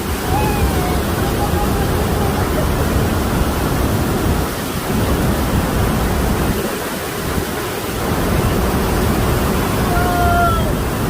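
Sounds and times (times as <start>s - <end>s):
waterfall rushing: 0.0s - 11.0s
wind rumble on microphone: 0.0s - 11.0s.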